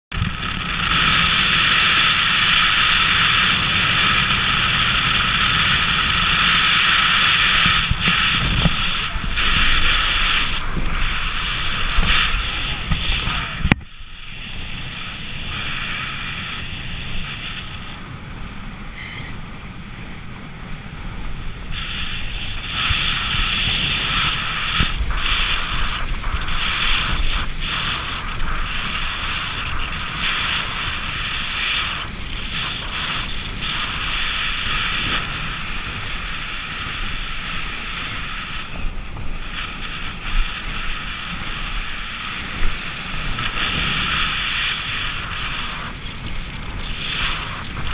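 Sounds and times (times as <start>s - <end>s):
boat engine droning: 0.1s - 47.9s
wind buffeting the microphone: 0.1s - 47.9s.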